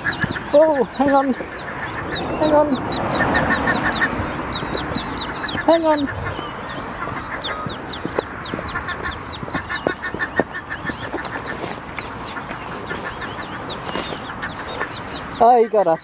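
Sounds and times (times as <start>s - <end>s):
background noise: 0.0s - 16.0s
ducklings peeping: 0.0s - 16.0s.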